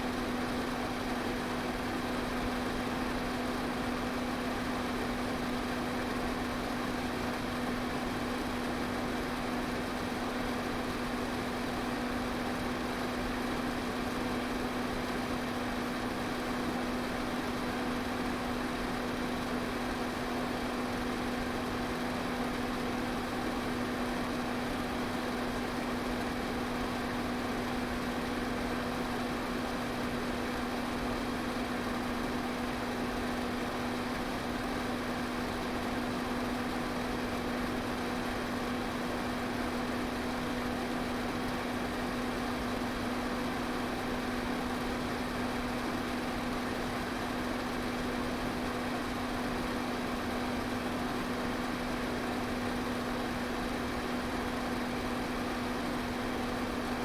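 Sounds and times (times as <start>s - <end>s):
electric fan running: 0.0s - 57.0s.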